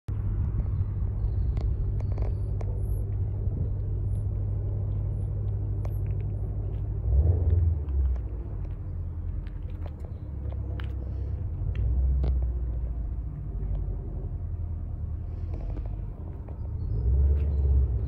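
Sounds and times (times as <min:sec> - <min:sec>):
car engine idling: 0:00.1 - 0:18.0.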